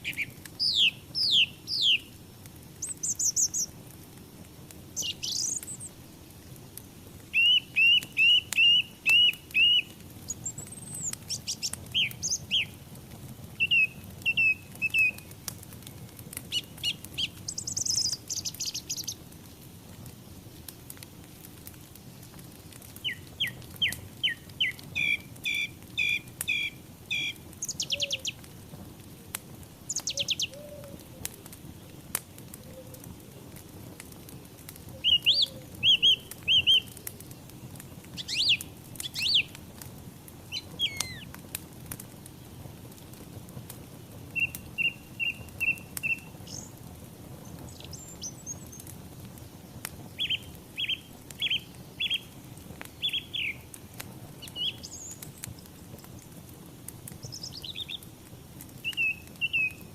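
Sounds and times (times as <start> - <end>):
small birds chirping: 0.0 - 3.9, 4.9 - 28.5, 29.8 - 33.2, 34.2 - 39.6, 40.4 - 41.4, 44.2 - 56.4, 57.1 - 58.1, 58.8 - 59.9
wood fire crackling: 0.0 - 59.9.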